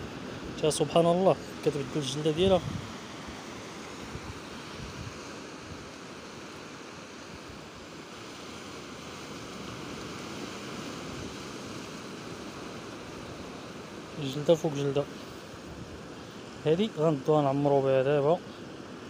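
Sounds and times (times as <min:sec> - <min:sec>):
sea surf washing on shore: 0:00.0 - 0:19.0.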